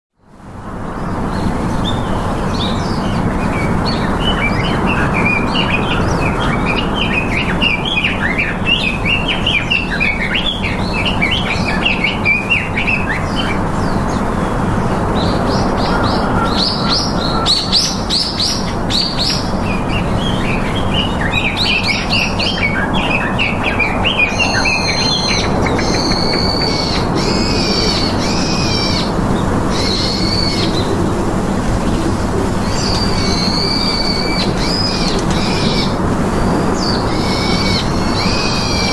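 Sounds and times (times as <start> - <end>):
small birds chirping and twittering: 0.4 - 38.9.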